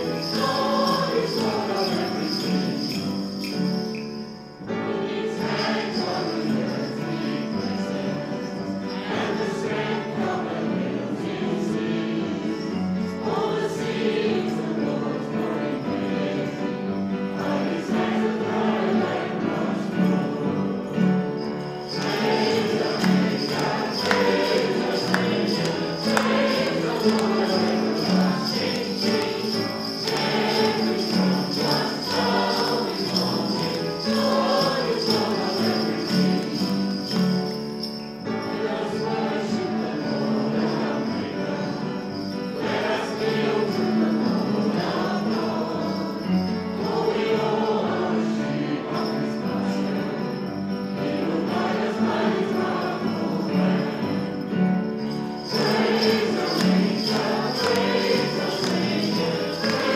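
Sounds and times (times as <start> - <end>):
congregation singing a hymn: 0.0 - 59.9
jingle bells shaking: 0.0 - 59.9
musical accompaniment: 0.0 - 59.9.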